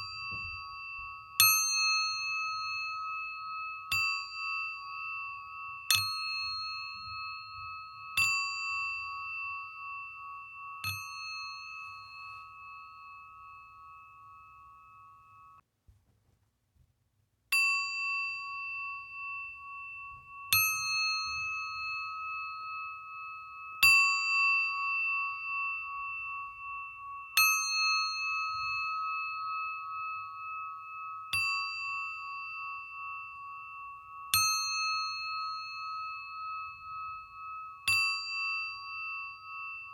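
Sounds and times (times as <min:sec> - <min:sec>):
singing bowl struck with mallet: 0:00.0 - 0:15.6, 0:17.6 - 0:39.9.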